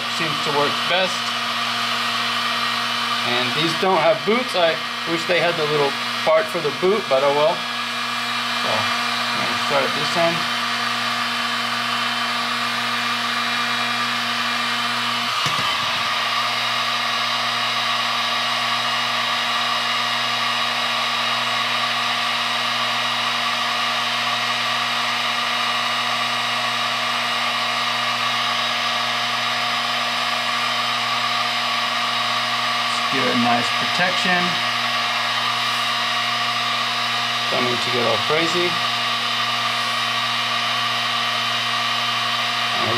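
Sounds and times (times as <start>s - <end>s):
heat gun whirring: 0.0s - 42.9s.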